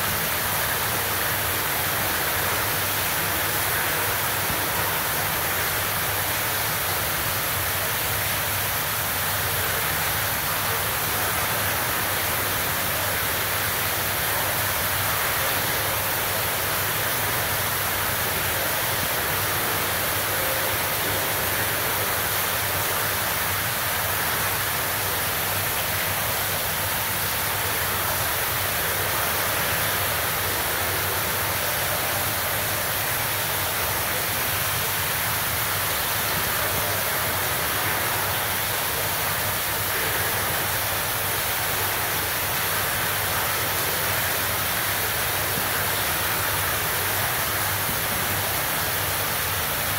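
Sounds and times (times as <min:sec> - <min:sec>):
steady rushing hiss: 0:00.0 - 0:49.9.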